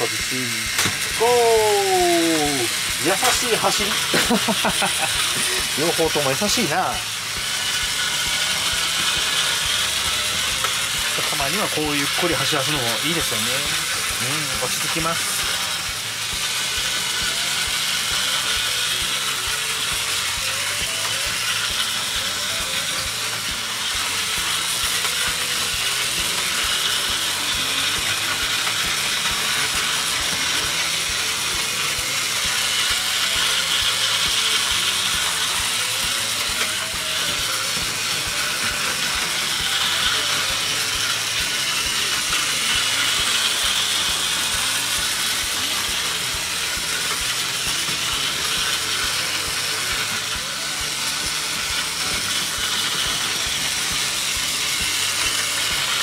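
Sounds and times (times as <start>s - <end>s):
toy train motors whirring: 0.0s - 56.0s.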